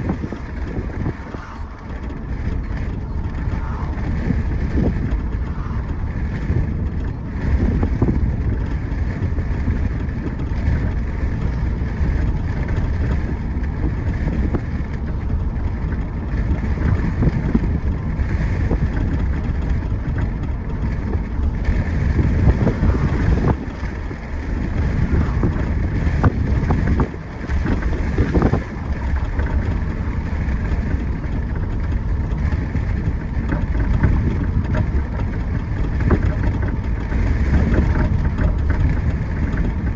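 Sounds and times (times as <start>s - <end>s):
road and tyre rumble: 0.0s - 39.9s
wind noise: 0.0s - 39.9s.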